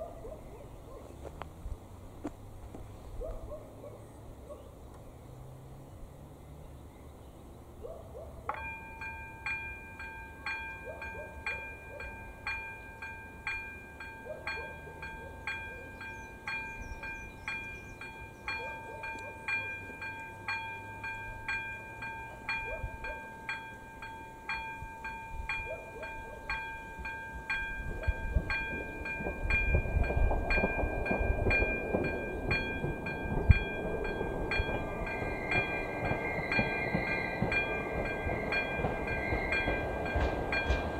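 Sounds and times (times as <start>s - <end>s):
diesel railcar approaching: 0.0s - 40.9s.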